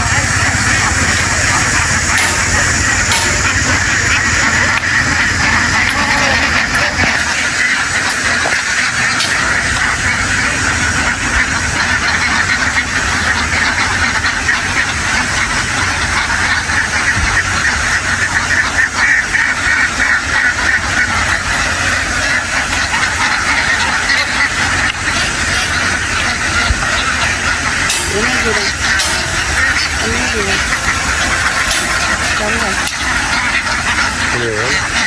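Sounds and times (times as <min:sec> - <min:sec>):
flock of ducks quacking: 0:00.0 - 0:35.0
steady low hum: 0:00.0 - 0:35.0.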